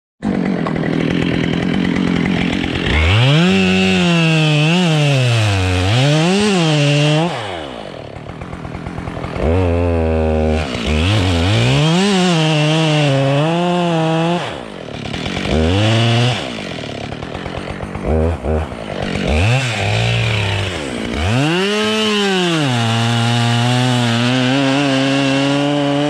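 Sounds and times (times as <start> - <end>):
chainsaw cutting wood: 0.2 - 26.0.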